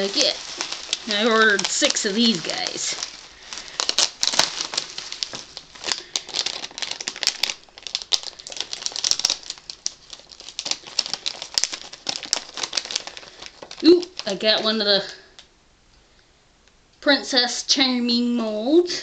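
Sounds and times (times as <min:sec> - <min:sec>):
plastic packet crinkling: 0:00.0 - 0:15.5.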